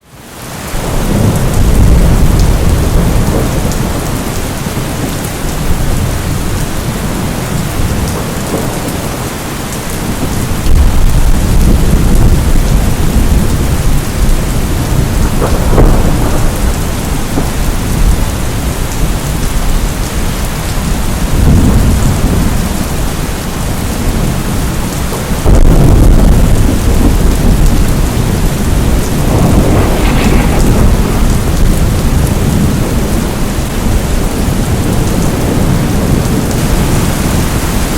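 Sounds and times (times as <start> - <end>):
heavy rain hissing: 0.1 - 37.9
thunder rumbling: 0.7 - 37.9.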